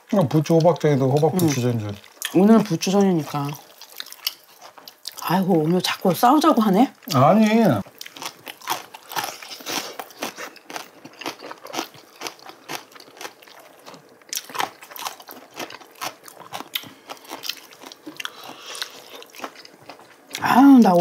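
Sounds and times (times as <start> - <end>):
close chewing and biting: 0.4 - 5.8, 7.8 - 20.5.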